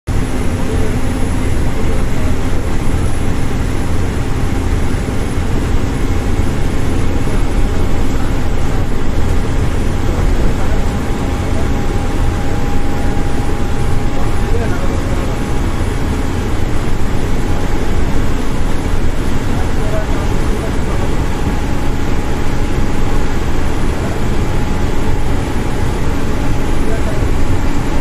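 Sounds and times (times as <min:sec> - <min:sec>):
bus engine and tyre noise: 0:00.1 - 0:28.0.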